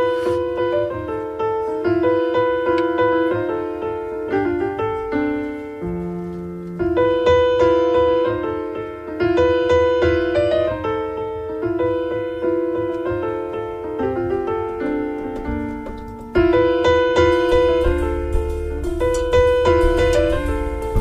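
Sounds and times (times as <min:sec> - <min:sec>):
piano playing repeating phrase: 0:00.0 - 0:21.0.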